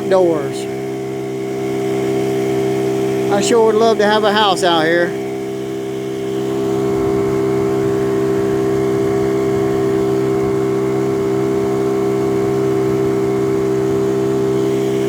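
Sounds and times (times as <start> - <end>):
outboard boat motor running: 0.0 - 15.0.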